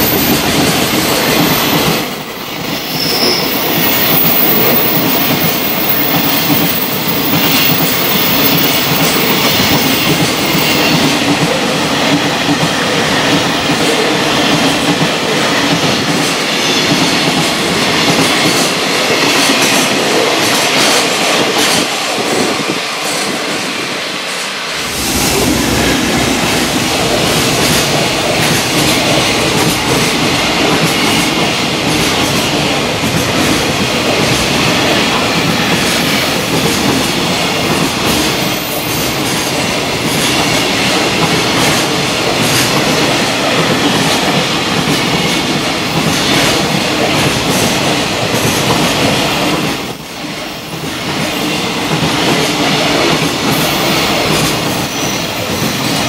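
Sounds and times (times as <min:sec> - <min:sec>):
train wheels running over rails: 0:00.0 - 0:56.0.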